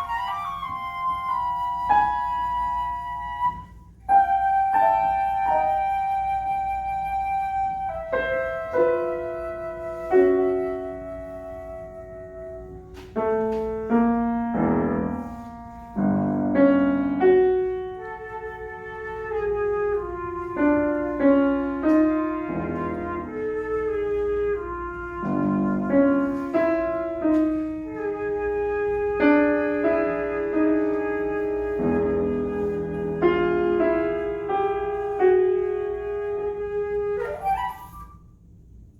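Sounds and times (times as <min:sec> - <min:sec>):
flute melody: 0:00.0 - 0:38.5
piano chords: 0:00.0 - 0:38.9.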